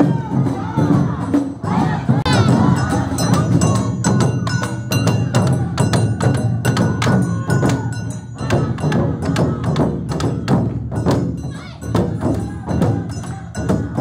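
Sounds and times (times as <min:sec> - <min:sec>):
taiko drums marching beat: 0:00.0 - 0:14.0.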